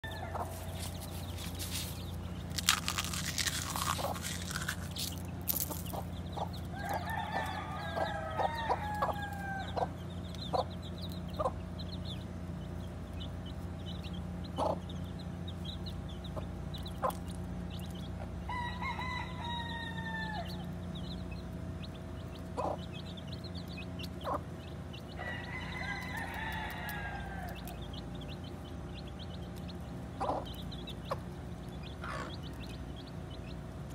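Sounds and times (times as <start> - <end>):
hen clucking: 0.0 - 12.0, 13.4 - 15.1, 16.2 - 18.3, 21.8 - 33.4
chicks peeping: 0.0 - 33.9.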